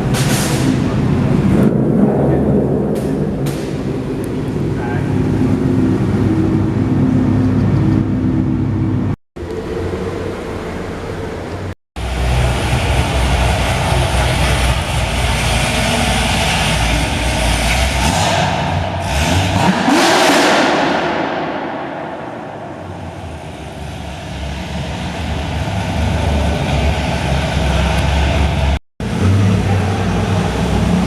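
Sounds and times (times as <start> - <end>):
car engine accelerating: 0.5 - 31.0.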